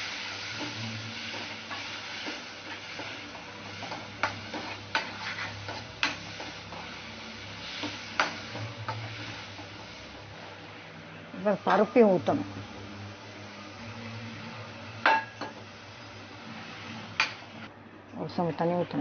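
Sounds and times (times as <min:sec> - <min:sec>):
greens sizzling in oil: 0:00.0 - 0:17.7.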